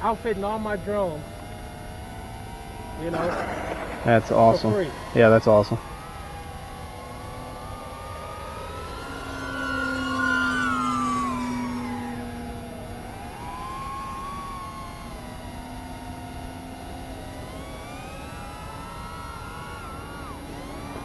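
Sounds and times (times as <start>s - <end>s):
drone propellers whining: 1.6s - 21.0s.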